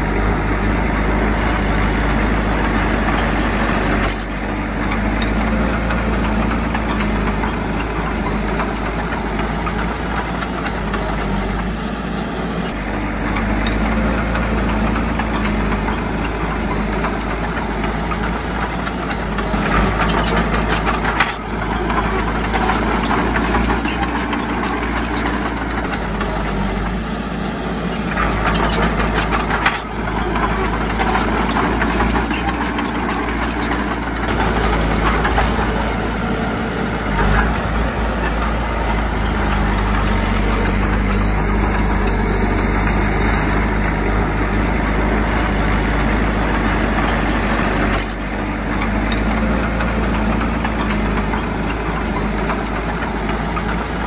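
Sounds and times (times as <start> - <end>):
diesel earthmoving machinery running: 0.0 - 54.0
machinery clattering: 0.0 - 54.0.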